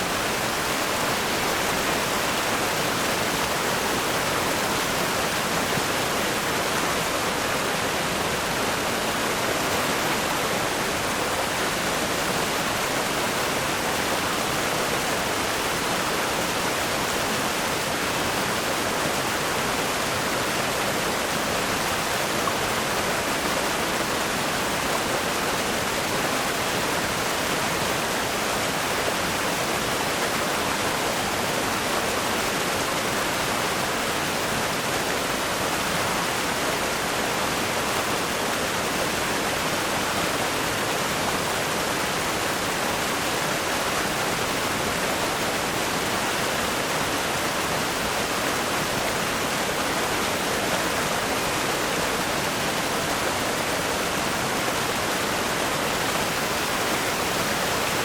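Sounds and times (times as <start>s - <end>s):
river rapids rushing over rocks: 0.0s - 58.0s.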